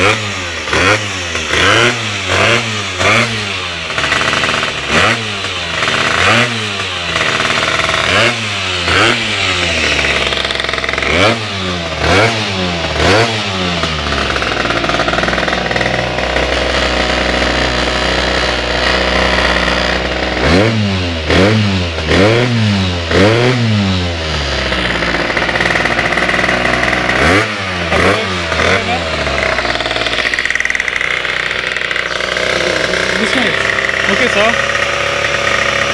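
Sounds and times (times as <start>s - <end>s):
scooter engine revving: 0.0s - 35.9s.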